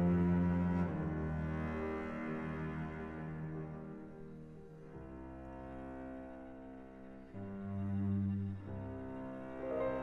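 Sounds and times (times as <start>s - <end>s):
cello bowing low notes: 0.0s - 10.0s
quiet piano chords: 0.0s - 10.0s.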